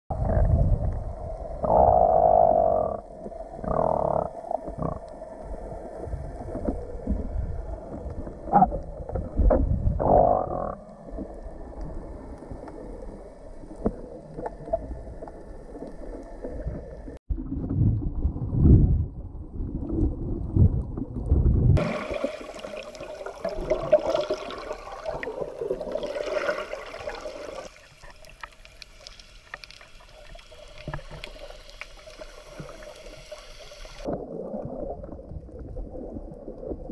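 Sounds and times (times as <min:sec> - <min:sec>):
underwater rumbles and sloshing: 0:00.1 - 0:36.9
water and bubbles: 0:00.1 - 0:36.9.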